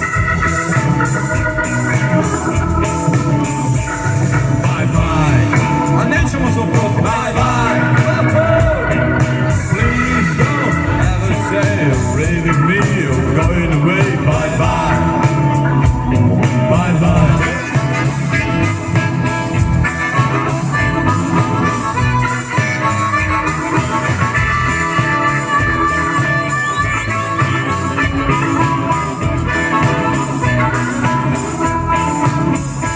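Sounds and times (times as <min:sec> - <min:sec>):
electric guitar: 0:00.0 - 0:32.9
live blues band playing: 0:00.0 - 0:32.9.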